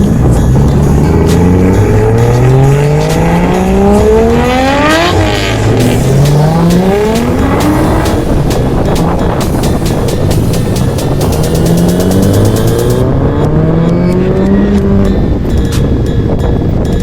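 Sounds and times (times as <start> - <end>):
car engine accelerating hard: 0.0 - 16.4.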